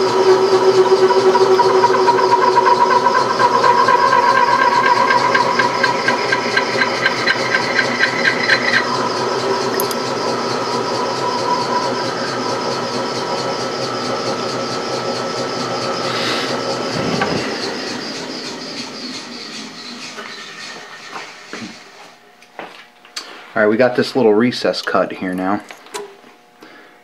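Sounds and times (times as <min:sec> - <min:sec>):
metal lathe cutting: 0:00.0 - 0:22.2.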